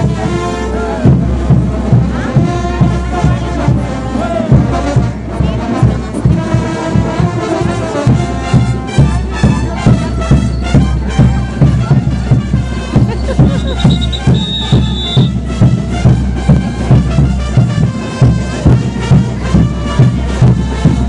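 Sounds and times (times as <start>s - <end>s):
brass band playing dance music: 0.0s - 21.0s
steady drum beat: 0.0s - 21.0s.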